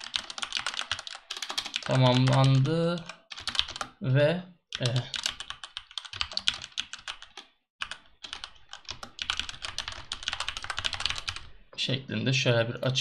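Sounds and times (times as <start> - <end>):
fast typing on keyboard: 0.0 - 4.0, 4.8 - 11.5.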